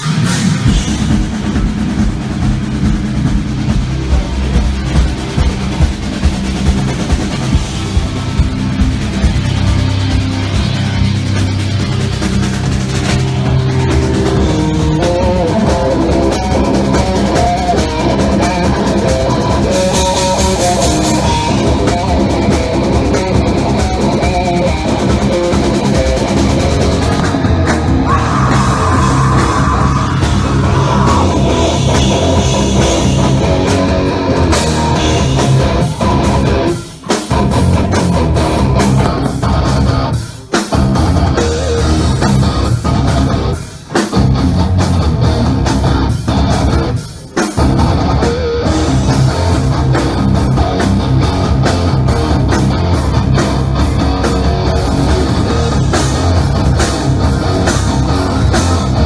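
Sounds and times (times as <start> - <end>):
heavy rock band playing: 0.0 - 59.0.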